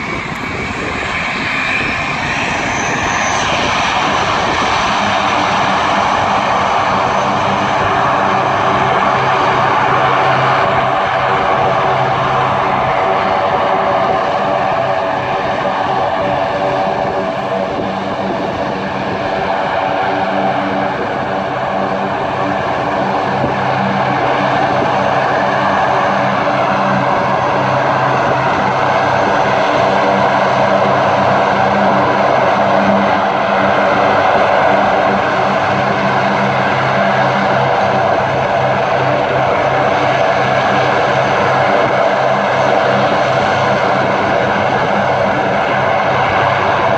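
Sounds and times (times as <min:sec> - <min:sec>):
propeller aircraft engines droning: 0:00.0 - 0:46.9.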